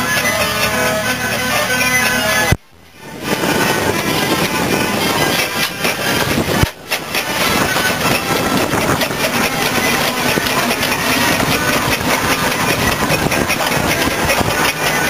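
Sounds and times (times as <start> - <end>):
steam traction engine running: 0.0 - 15.0.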